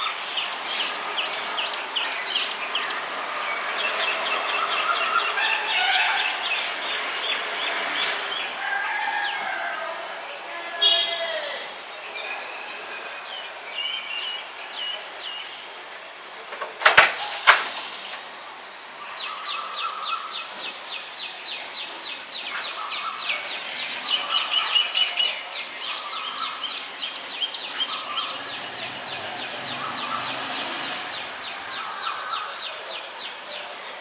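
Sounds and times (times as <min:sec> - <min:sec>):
birds chirping and calling: 0:00.0 - 0:10.0, 0:10.8 - 0:34.0
steady outdoor hiss: 0:00.0 - 0:34.0.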